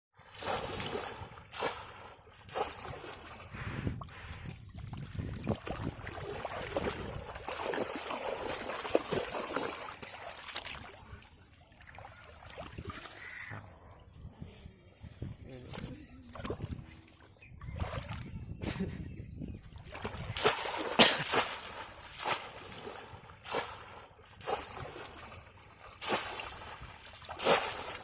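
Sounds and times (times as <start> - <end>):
shallow water splashing: 0.2 - 13.7, 15.7 - 18.6, 19.6 - 28.0.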